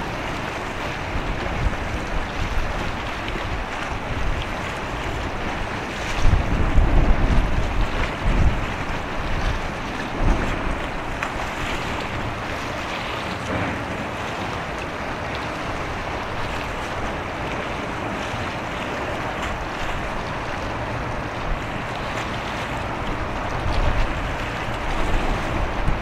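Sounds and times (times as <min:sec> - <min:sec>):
rushing hiss of wind and water: 0:00.0 - 0:26.0
wind buffeting microphone: 0:00.0 - 0:26.0.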